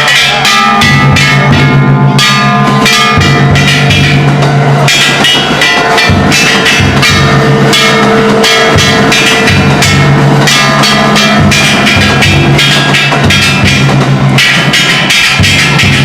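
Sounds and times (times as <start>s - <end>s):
big drum beats: 0.0s - 16.0s
bronze gongs clanging: 0.0s - 16.0s.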